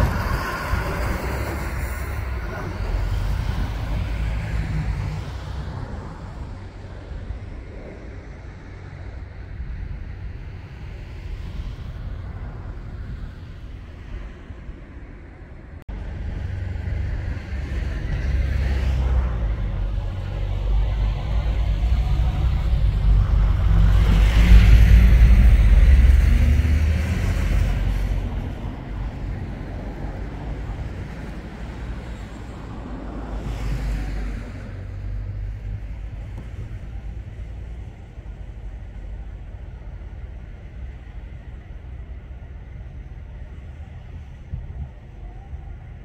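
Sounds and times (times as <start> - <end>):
passing traffic rumble: 0.0 - 46.0.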